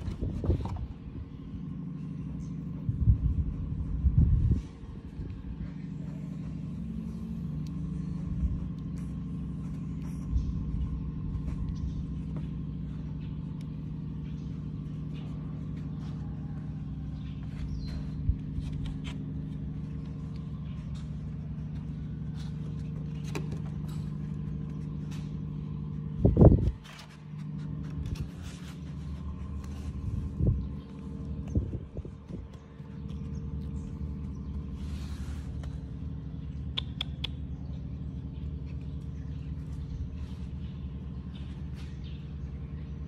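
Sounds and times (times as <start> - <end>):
motor humming: 0.0 - 43.0.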